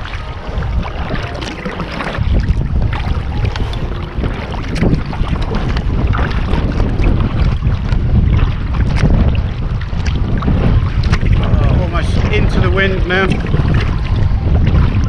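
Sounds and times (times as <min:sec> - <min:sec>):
choppy water splashing: 0:00.0 - 0:15.0
wind buffeting microphone: 0:00.0 - 0:15.0.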